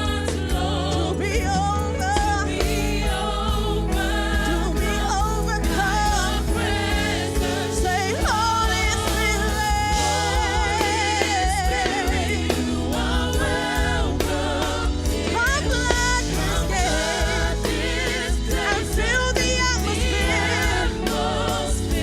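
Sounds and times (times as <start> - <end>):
band with steady bass: 0.0 - 22.0
gospel singing voices: 0.0 - 22.0.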